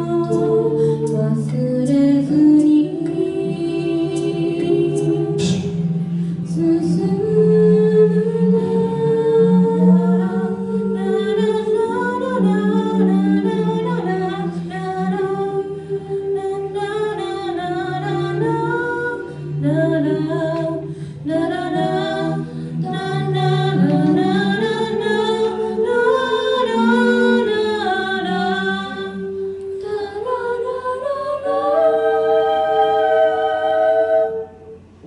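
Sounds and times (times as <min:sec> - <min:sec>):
a cappella group singing: 0:00.0 - 0:35.0.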